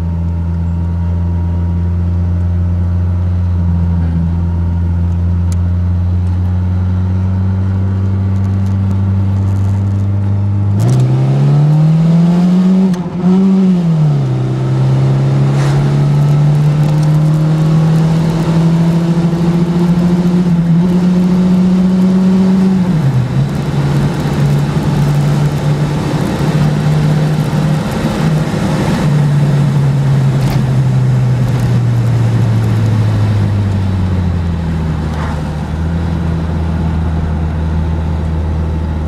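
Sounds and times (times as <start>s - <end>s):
car engine revving: 3.5s - 39.0s.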